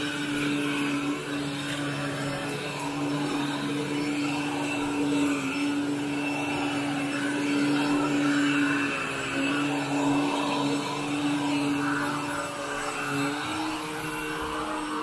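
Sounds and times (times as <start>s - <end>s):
vacuum cleaner running on carpet: 0.0s - 15.0s.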